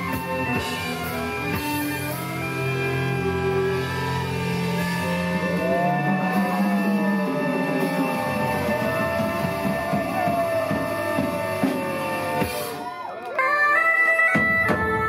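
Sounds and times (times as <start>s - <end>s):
bagpipes melody: 0.0s - 12.8s, 13.4s - 15.0s
drums: 0.0s - 15.0s.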